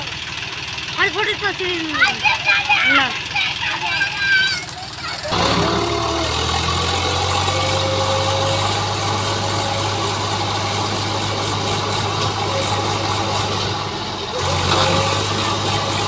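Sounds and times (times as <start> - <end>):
diesel tractor engine idling: 0.0 - 16.0.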